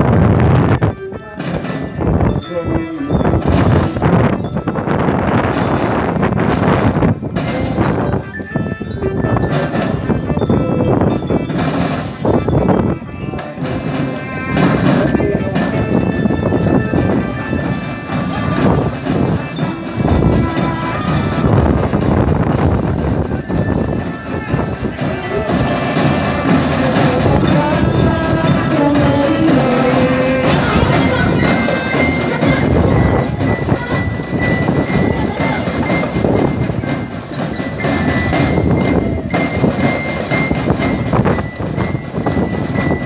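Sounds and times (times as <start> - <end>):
marching drums: 0.0 - 8.3, 9.4 - 10.4, 11.0 - 43.0
pitched melody: 0.0 - 43.0.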